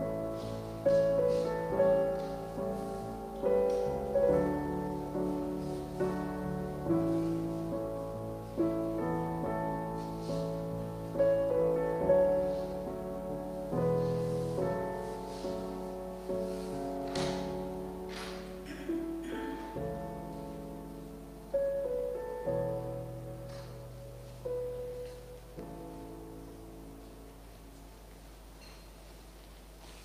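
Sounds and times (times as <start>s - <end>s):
slow piano music: 0.0s - 30.0s.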